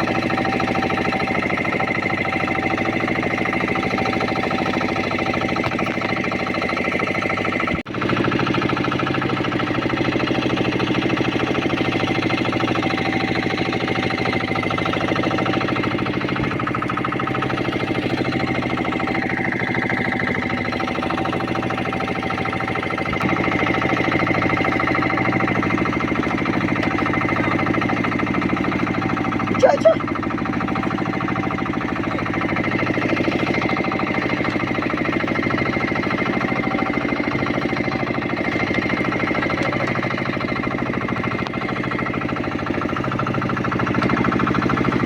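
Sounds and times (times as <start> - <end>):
boat engine knocking: 0.0 - 45.0.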